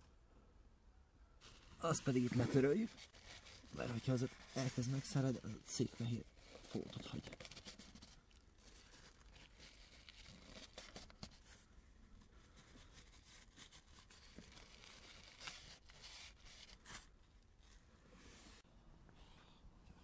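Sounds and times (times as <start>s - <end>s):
cloth rubbing and rustling: 1.4s - 20.0s.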